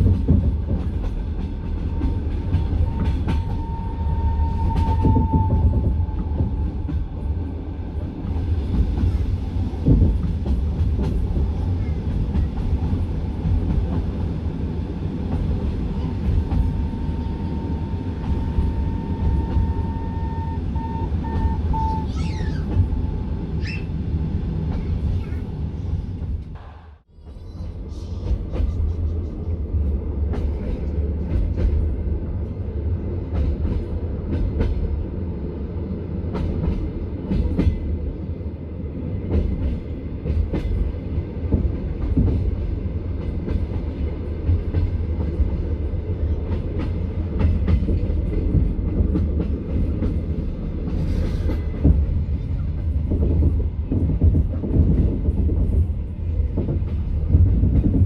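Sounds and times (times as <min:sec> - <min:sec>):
wheels clacking on rails: 0:00.0 - 0:38.4, 0:39.0 - 0:58.0
train rumbling on track: 0:00.0 - 0:58.0.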